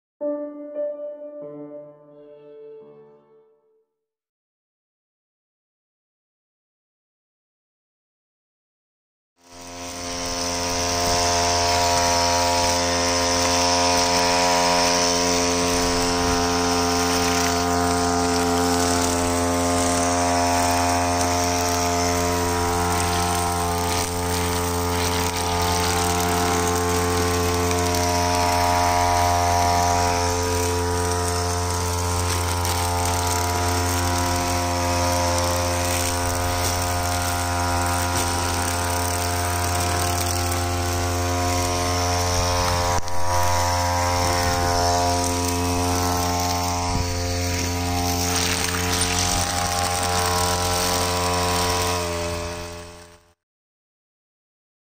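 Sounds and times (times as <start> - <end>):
brush cutter running: 9.4 - 53.4.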